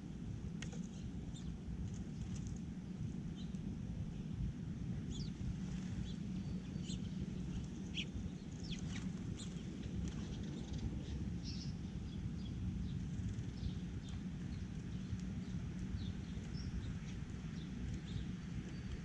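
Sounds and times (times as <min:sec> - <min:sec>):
steady low rumble: 0:00.0 - 0:19.0
birds chirping: 0:00.6 - 0:04.4, 0:05.0 - 0:19.0.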